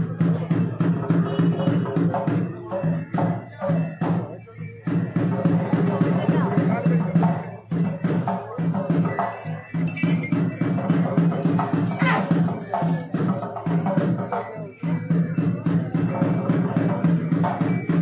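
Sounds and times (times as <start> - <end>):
quick percussion strikes: 0.0 - 18.0.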